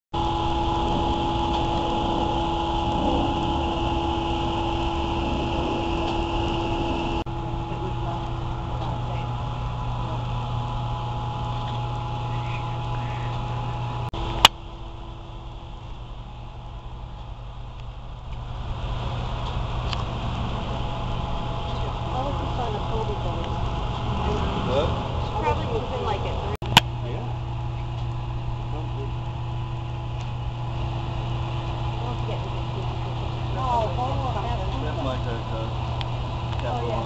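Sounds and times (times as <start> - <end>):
mechanical hum: 0.2 - 37.0.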